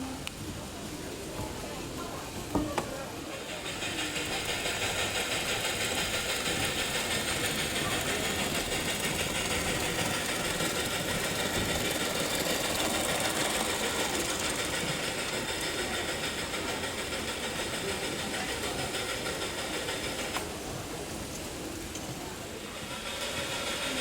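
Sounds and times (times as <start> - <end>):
model train motors whirring: 0.0 - 24.0.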